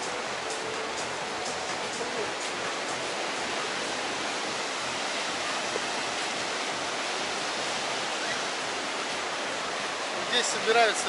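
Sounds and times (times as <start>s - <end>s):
sea surf on sandy beach: 0.0s - 11.0s.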